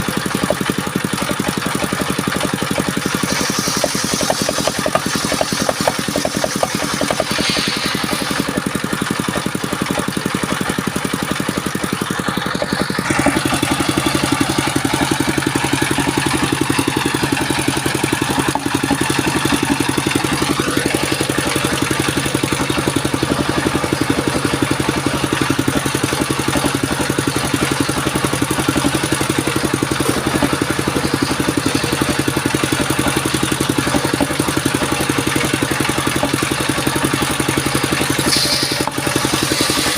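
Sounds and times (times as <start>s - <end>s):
circular saw machine engine running: 0.0s - 39.9s.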